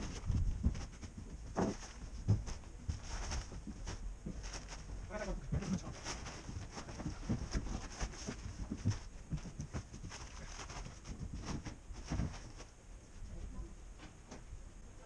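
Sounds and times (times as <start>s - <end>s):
footsteps on truck bed: 0.0s - 12.7s.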